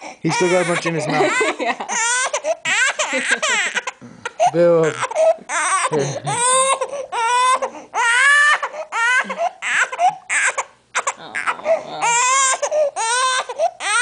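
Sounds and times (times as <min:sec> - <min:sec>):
baby crying: 0:00.0 - 0:14.0.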